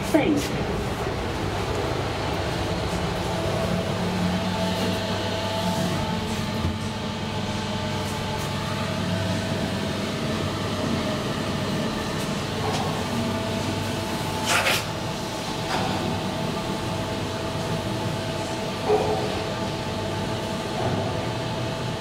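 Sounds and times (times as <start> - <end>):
elevator hum: 0.0 - 22.0.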